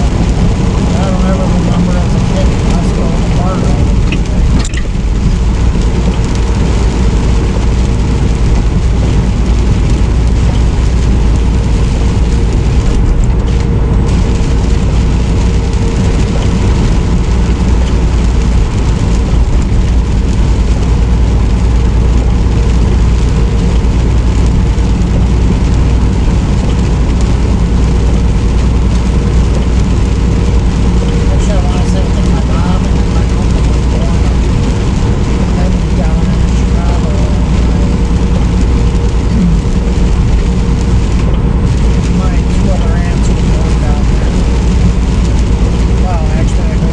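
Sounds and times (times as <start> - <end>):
rain: 0.0 - 46.9
road noise: 0.0 - 46.9
truck engine drone: 0.0 - 46.9.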